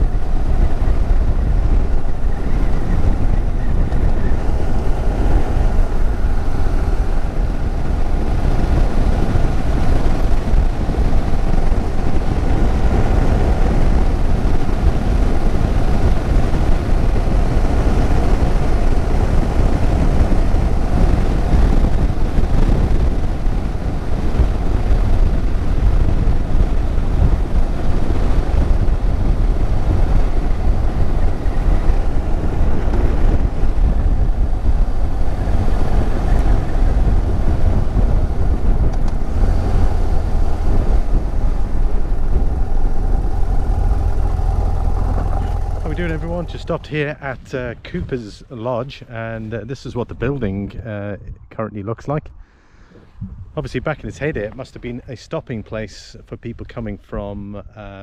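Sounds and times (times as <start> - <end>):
motorcycle engine drone: 0.0 - 51.2
wind rushing over microphone: 0.0 - 58.0.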